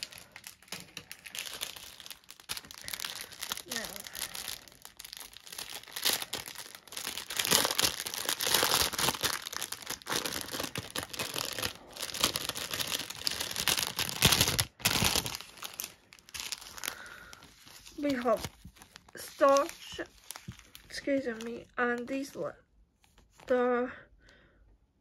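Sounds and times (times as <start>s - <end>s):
plastic packaging crinkling: 0.0s - 22.3s.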